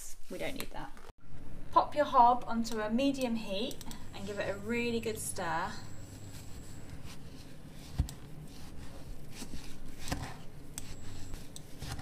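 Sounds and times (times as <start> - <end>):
low steady hum: 0.4 - 12.0.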